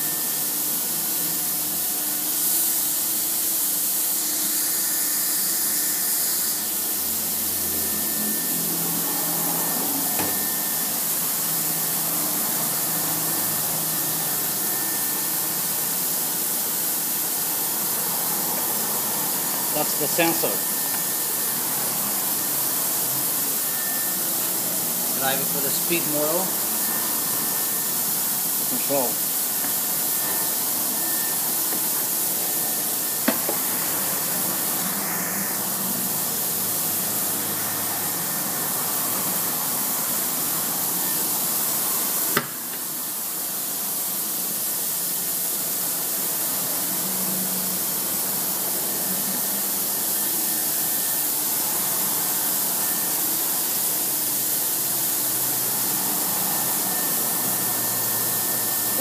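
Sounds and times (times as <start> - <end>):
cnc machine whooshing hiss: 0.0 - 59.0.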